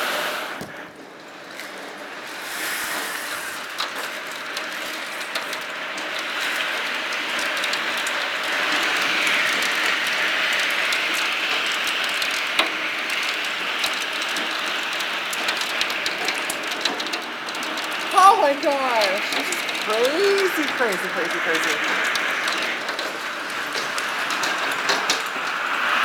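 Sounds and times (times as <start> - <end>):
hailstones ticking: 0.6 - 26.0
heavy rain hiss: 2.1 - 16.9, 17.6 - 26.0.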